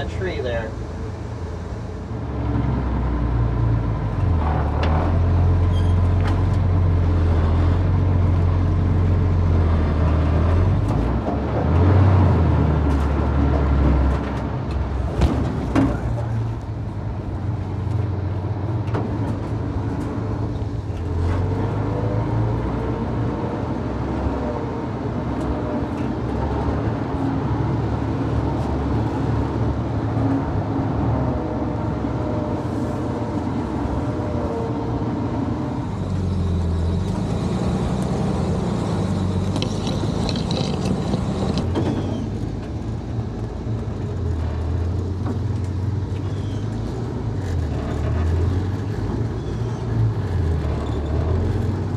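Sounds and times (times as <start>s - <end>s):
truck engine running: 0.0s - 51.9s.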